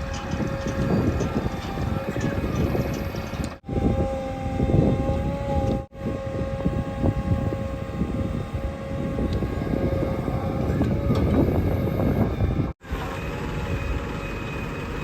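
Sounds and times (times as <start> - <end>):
diesel engine rumbling: 0.0 - 15.0
steady whine: 0.0 - 15.0.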